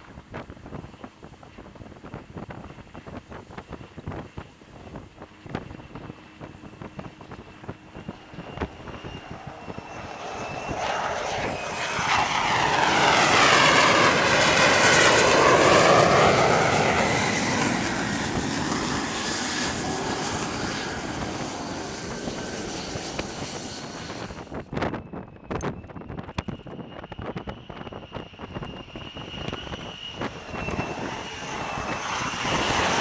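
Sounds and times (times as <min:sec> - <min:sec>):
jet engine passing: 0:00.0 - 0:24.7, 0:26.8 - 0:33.0.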